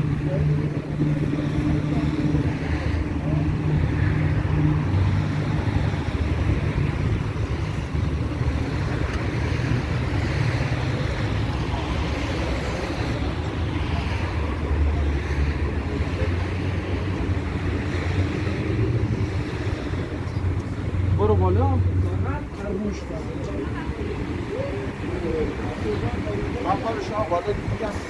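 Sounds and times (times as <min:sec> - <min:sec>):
road traffic noise: 0:00.0 - 0:28.0
wind rumbling on microphone: 0:00.0 - 0:28.0.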